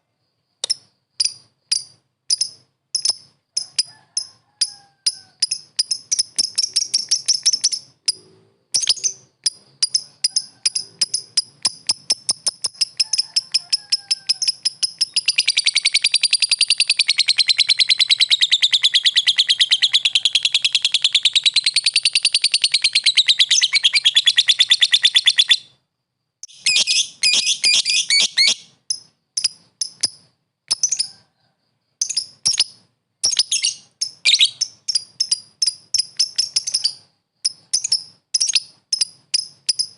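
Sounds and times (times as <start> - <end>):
lovebird chattering trill: 0.6 - 25.8, 26.4 - 31.2, 32.0 - 39.9.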